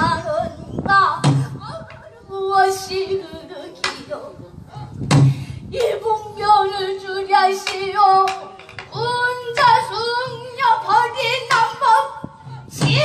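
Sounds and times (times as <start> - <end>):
woman singing slow song: 0.0 - 4.7, 5.7 - 13.0.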